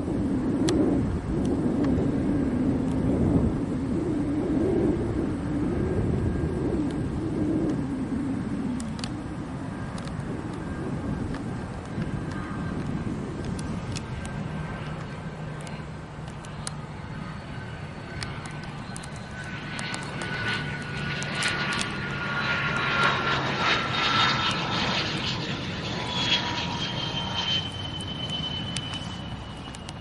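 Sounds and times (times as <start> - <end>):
airplane passing by: 0.0 - 30.0
engine whine falling in pitch: 0.0 - 30.0.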